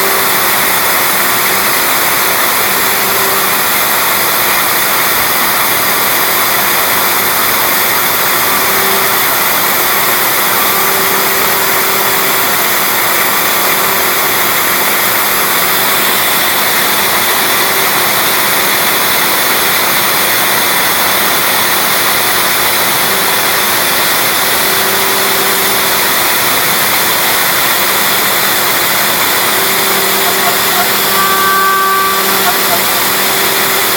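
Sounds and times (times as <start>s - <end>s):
bit milling into wood: 0.0s - 20.1s, 20.7s - 33.9s
low machine tone: 0.0s - 33.9s
router spindle whining: 0.0s - 33.9s.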